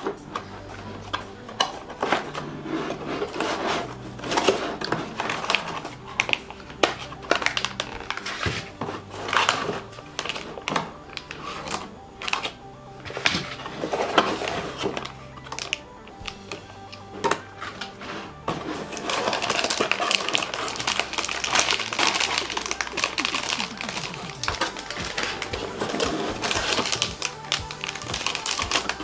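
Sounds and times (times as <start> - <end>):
plastic bags and cardboard crinkling: 0.0 - 29.0
soft background music: 0.0 - 29.0.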